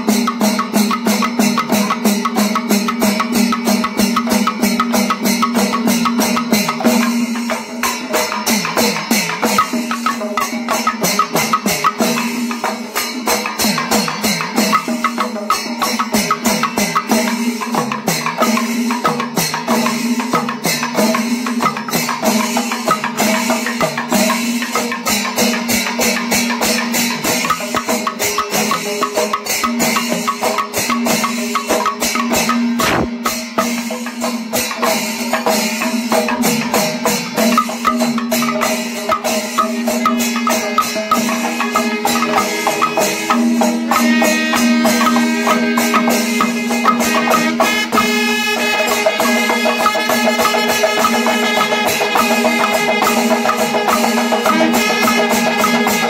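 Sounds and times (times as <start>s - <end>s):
cymbals clashing: 0.0s - 56.0s
rapid drum strokes: 0.0s - 56.0s.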